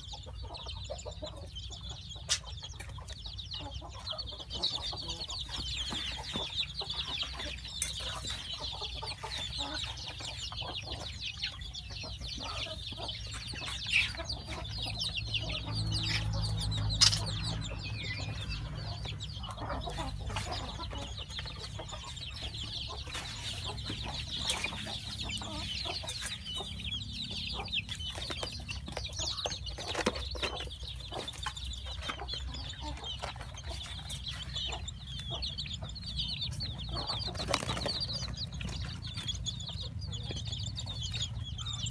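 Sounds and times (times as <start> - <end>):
chicks peeping: 0.0 - 41.9.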